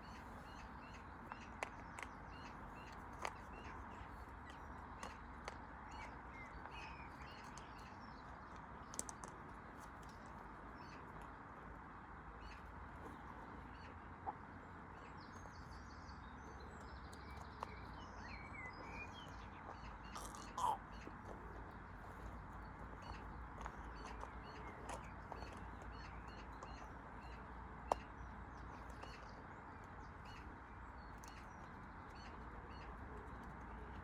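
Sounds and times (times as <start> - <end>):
bird calls: 0.0 - 9.4, 12.3 - 34.0.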